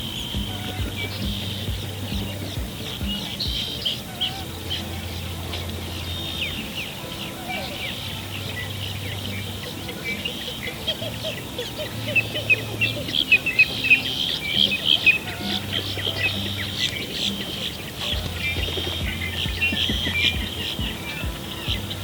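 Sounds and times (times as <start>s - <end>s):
many small birds chirping: 0.0s - 22.0s.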